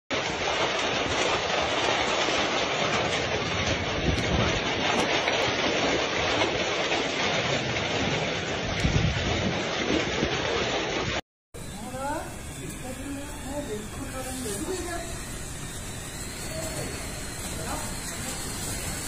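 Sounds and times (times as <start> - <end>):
hail pelting wet ground: 0.1 - 11.2, 11.8 - 19.0.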